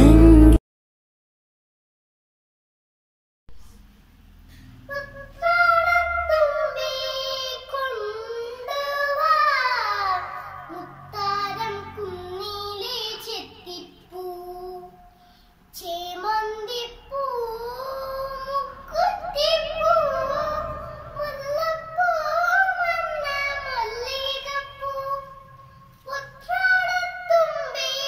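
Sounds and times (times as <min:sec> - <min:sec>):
girl singing: 0:00.0 - 0:00.6, 0:04.9 - 0:28.0.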